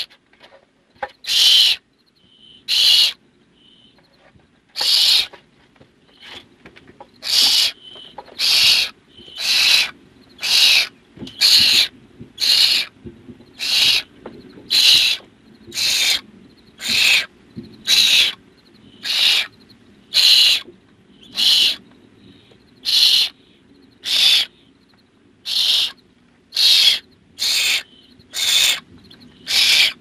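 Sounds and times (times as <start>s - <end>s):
owl nestlings hissing: 1.2s - 1.8s, 2.4s - 3.9s, 4.8s - 5.4s, 7.2s - 24.6s, 25.4s - 30.0s.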